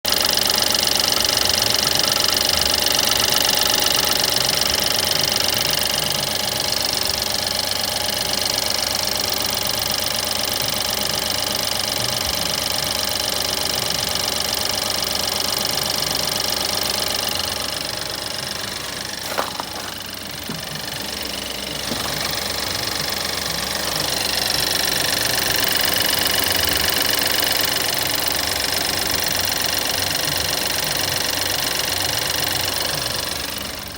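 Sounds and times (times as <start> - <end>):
engine knocking: 0.0 - 33.9
car engine running: 0.1 - 33.9.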